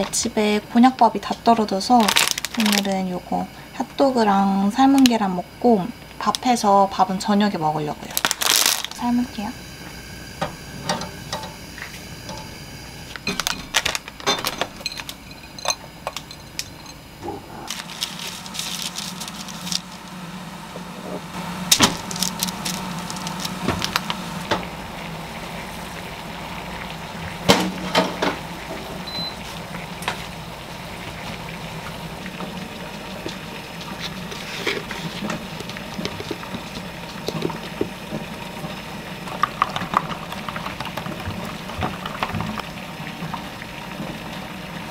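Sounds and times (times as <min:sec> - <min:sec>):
low appliance hum: 0:00.0 - 0:44.9.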